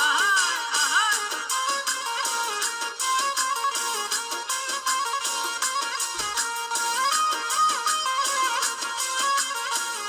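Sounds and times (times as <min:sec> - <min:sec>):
sliding melody: 0:00.4 - 0:10.0.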